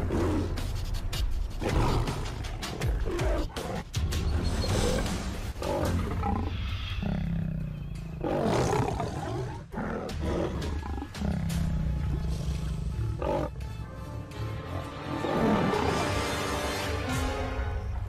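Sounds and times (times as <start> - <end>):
lion growling: 1.5 - 4.0, 4.6 - 16.6.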